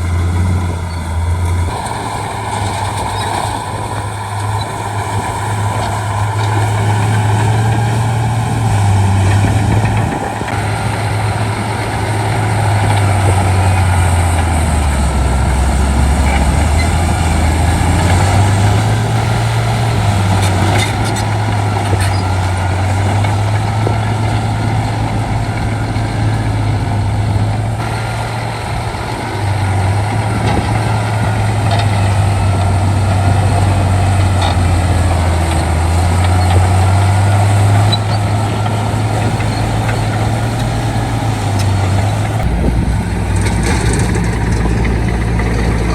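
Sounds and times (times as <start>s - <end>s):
bulldozer diesel engine: 0.0s - 45.9s.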